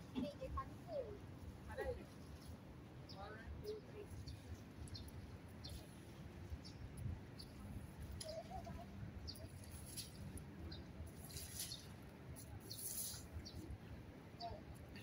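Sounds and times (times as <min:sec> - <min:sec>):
low city rumble: 0:00.0 - 0:15.0
small birds chirping: 0:02.2 - 0:15.0.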